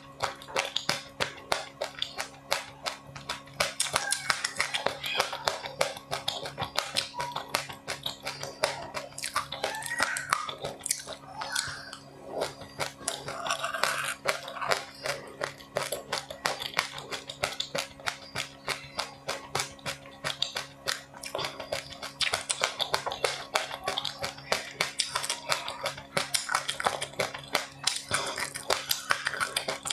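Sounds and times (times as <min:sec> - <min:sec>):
person chewing crunchy food: 0:00.0 - 0:29.9.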